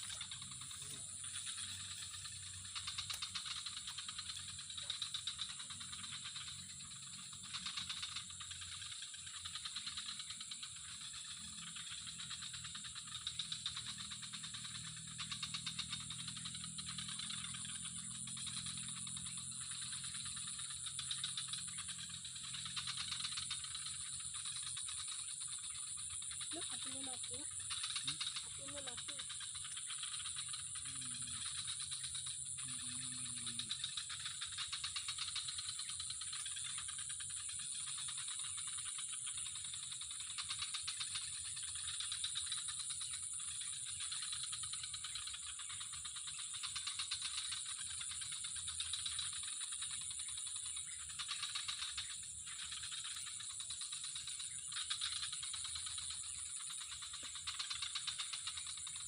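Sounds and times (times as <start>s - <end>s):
chorus of trilling animals: 0.0s - 59.0s.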